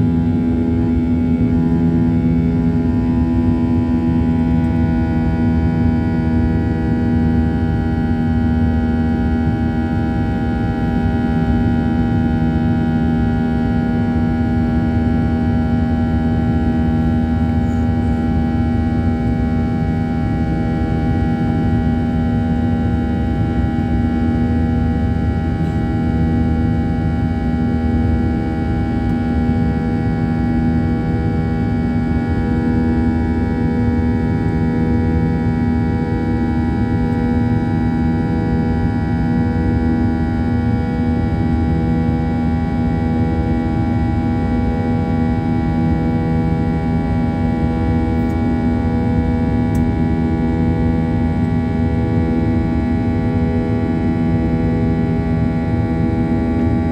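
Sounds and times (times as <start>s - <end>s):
jet engines in airplane cabin: 0.0s - 56.9s.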